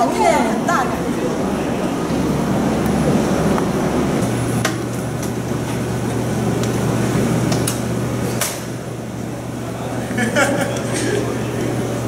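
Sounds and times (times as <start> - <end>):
studio background rumble: 0.0 - 12.0.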